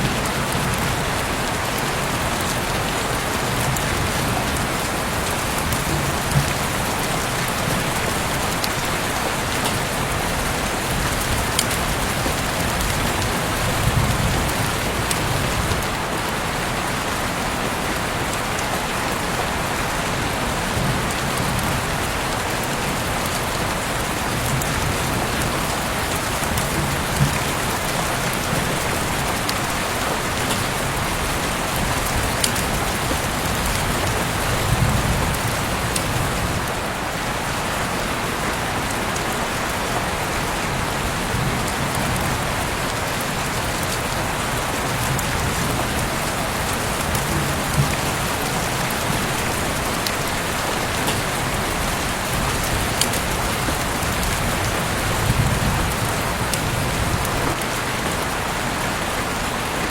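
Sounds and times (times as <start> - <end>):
rain drop hits: 0.0 - 18.9, 20.4 - 37.0, 38.7 - 58.4
heavy rain hiss: 0.0 - 59.9.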